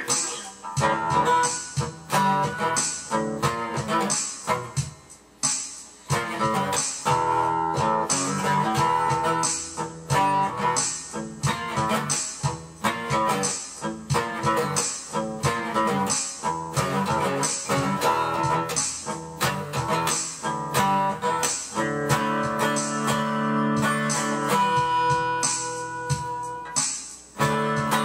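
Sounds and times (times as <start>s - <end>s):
acoustic guitar chords: 0.0s - 28.0s.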